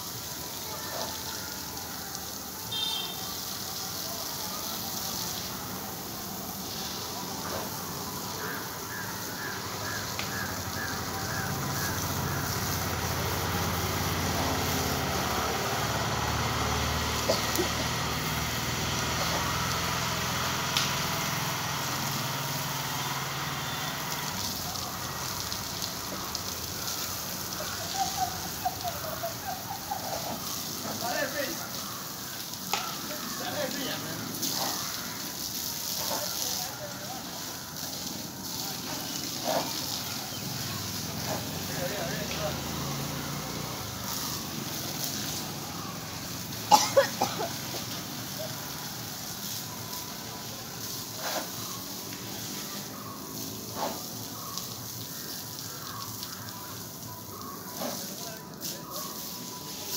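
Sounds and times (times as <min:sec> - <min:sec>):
water splattering on concrete: 0:00.0 - 0:59.9.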